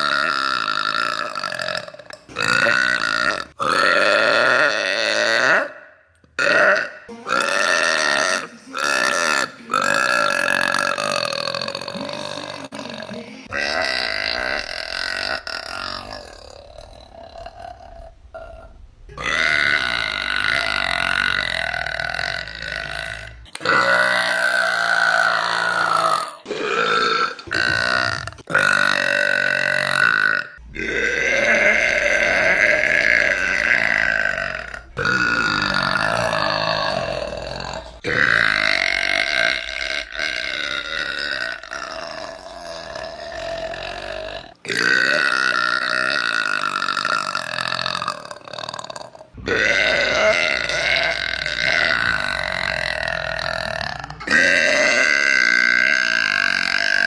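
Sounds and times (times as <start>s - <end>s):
woman burping: 0.0s - 57.0s.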